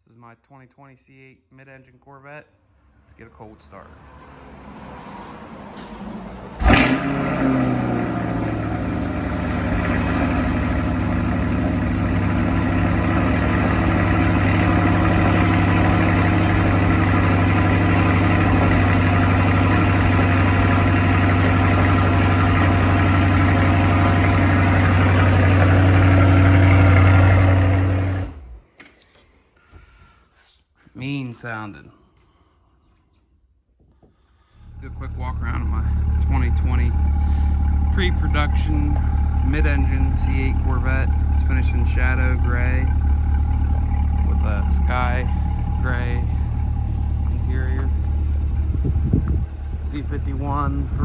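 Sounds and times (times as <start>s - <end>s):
car engine starting and idling: 4.0s - 28.7s, 34.5s - 51.0s.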